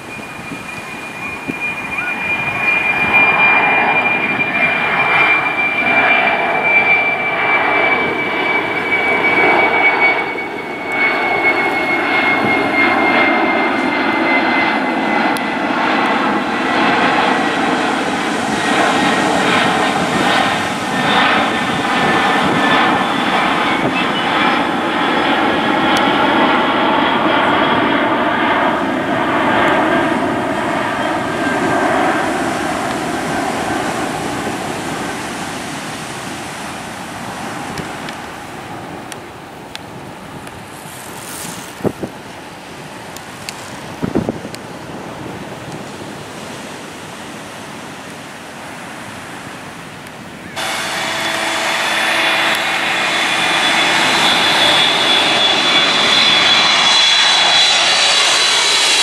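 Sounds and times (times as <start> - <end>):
jet engines rushing and whining: 0.0 - 59.0.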